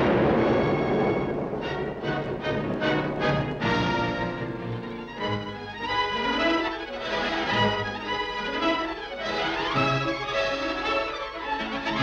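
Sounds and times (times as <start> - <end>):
full orchestra music: 0.0 - 12.0.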